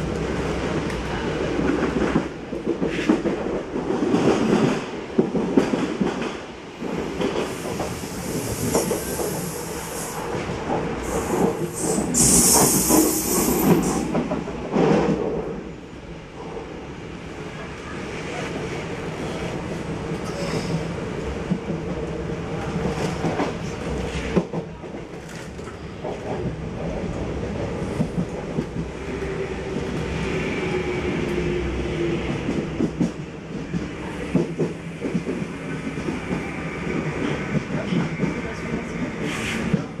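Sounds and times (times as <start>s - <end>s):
train rumble inside carriage: 0.0s - 40.0s.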